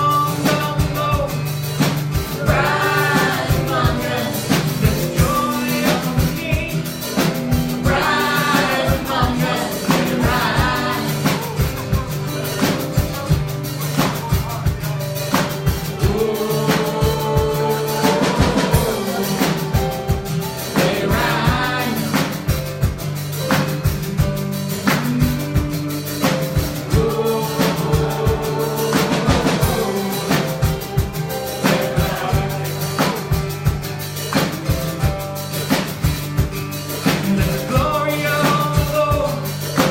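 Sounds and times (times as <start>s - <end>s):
person singing: 0.0s - 14.8s, 15.6s - 22.7s, 26.5s - 34.3s, 37.1s - 39.9s
drum kit beat: 0.0s - 39.9s
live band playing worship music: 0.0s - 39.9s.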